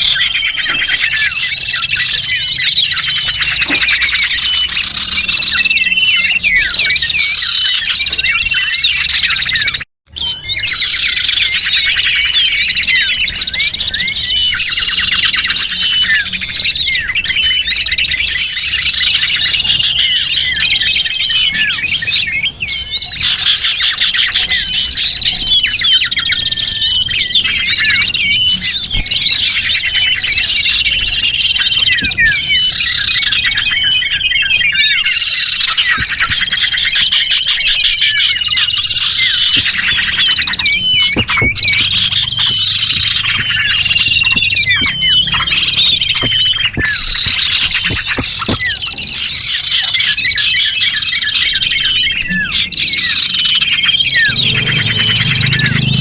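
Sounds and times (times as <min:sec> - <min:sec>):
songbirds chirping chorus: 0:00.0 - 0:56.0.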